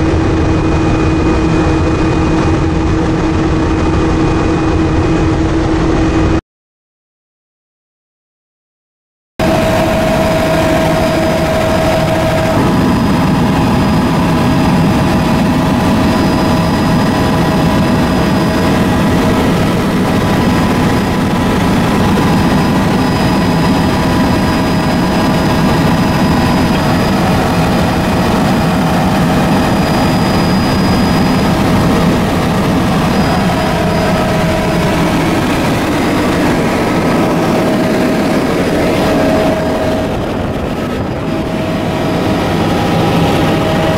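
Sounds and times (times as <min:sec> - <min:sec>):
aircraft engine rumble and whine: 0:00.0 - 0:06.4, 0:09.4 - 0:43.9.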